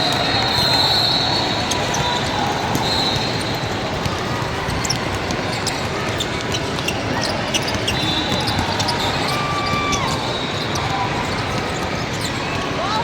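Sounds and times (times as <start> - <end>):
gym background noise: 0.0 - 13.0
shoe squeaks and ticks: 0.1 - 12.5.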